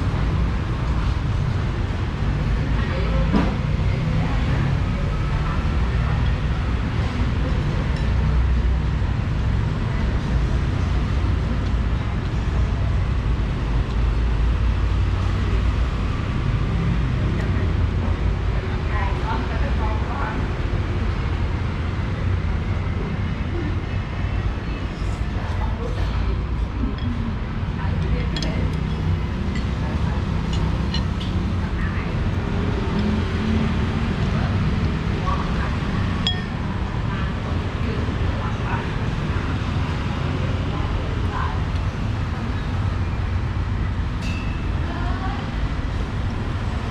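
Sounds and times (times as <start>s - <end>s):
faint voices: 0.0s - 46.9s.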